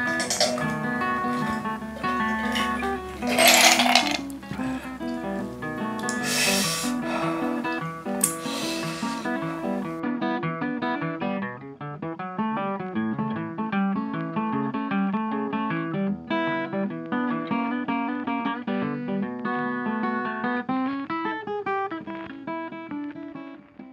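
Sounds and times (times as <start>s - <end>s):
plucked acoustic guitar tune: 0.0s - 23.9s.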